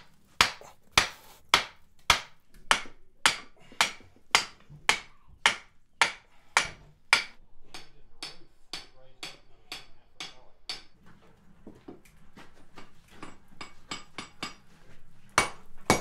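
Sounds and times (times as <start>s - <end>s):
hammer striking metal on anvil: 0.0s - 10.9s, 13.2s - 14.6s, 15.4s - 16.0s.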